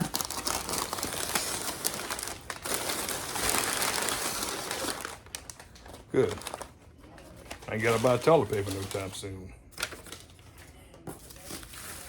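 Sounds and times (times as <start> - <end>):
packing paper crinkling: 0.0 - 12.0.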